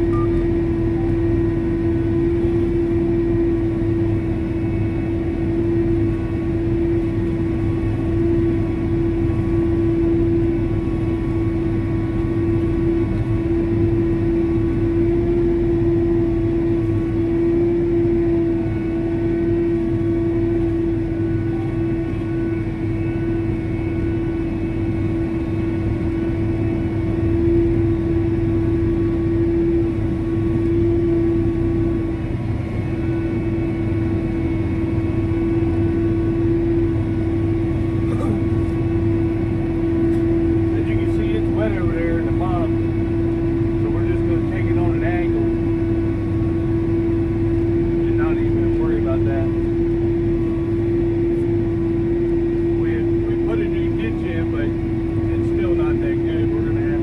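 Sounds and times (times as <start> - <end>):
constant tone: 0.0 - 57.0
engine drone: 0.0 - 57.0.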